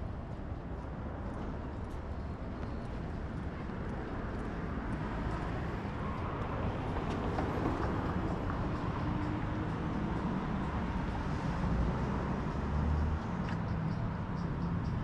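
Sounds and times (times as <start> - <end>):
vehicle traffic going by: 0.0 - 15.0.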